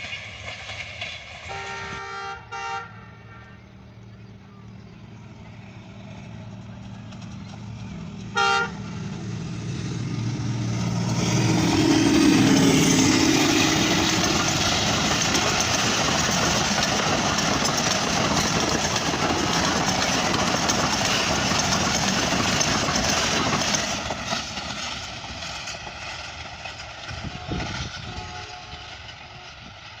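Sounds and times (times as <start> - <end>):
locomotive engine: 0.0 - 30.0
wheels on track: 0.0 - 30.0.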